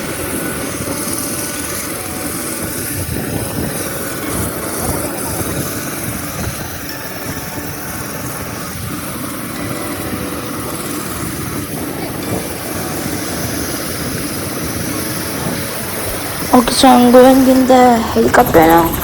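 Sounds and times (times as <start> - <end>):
helicopter turbine and rotor: 0.0 - 19.0.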